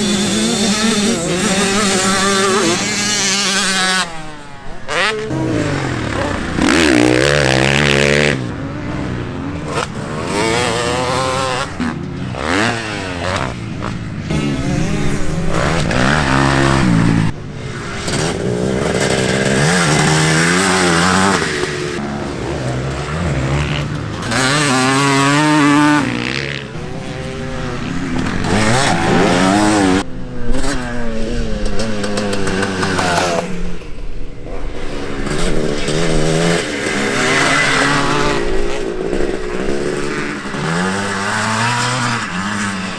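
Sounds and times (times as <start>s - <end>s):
motocross bike engines revving: 0.0s - 42.9s.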